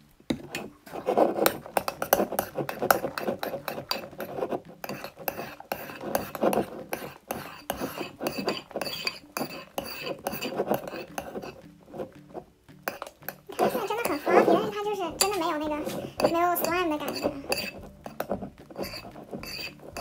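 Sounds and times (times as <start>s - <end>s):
metal spoon scraping a bowl: 0.4s - 20.0s.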